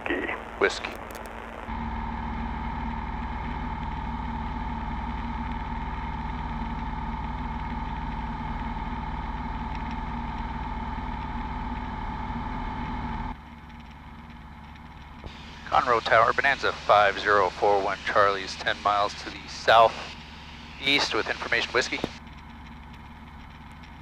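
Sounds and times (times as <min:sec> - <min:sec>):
piston engine and propeller drone: 0:00.0 - 0:24.0.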